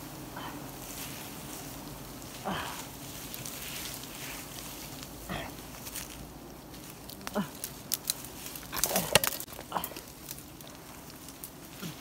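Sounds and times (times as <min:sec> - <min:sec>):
leafy branches rustling: 0:00.0 - 0:12.0
steady outdoor hiss: 0:00.0 - 0:12.0.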